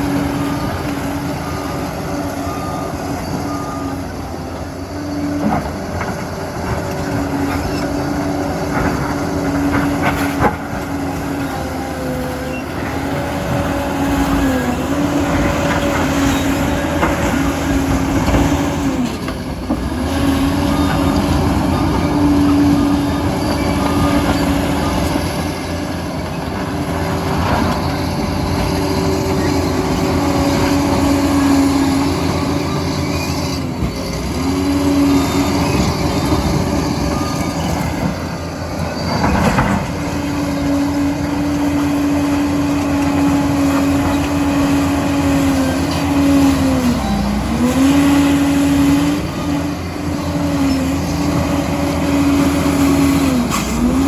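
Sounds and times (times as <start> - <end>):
dozer diesel engine humming: 0.0 - 54.0.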